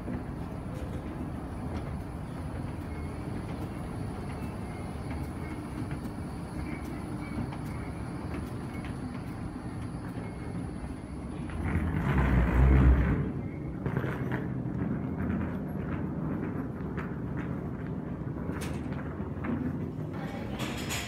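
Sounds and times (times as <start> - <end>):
escalator rumble: 0.0 - 21.0
terminal hall hum: 0.0 - 21.0.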